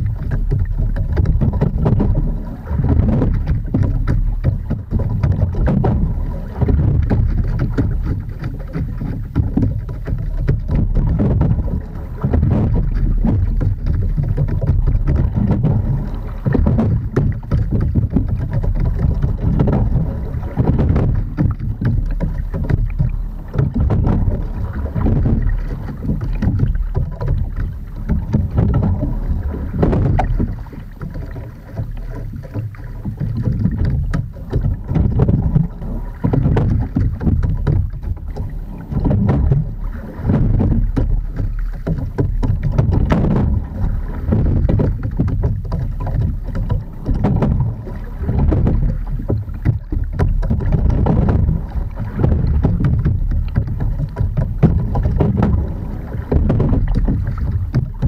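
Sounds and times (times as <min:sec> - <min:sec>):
steady low rumble: 0:00.0 - 0:58.0
water washing along rowing boat: 0:00.0 - 0:58.0.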